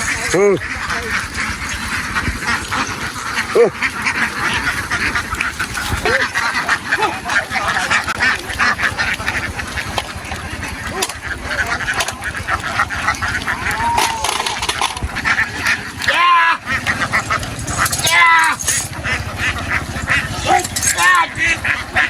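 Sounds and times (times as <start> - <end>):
flock of ducks quacking: 0.0 - 22.0.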